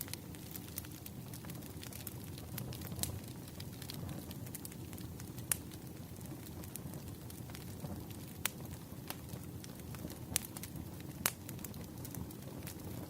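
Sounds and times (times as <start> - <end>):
campfire flames rushing: 0.0 - 13.0
logs crackling and popping: 0.0 - 13.0.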